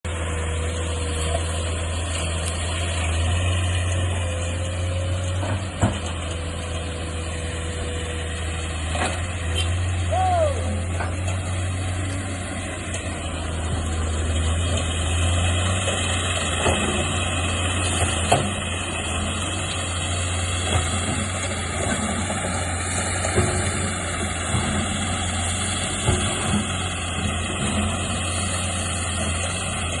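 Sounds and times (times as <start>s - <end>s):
heavy machinery engine running: 0.0s - 30.0s.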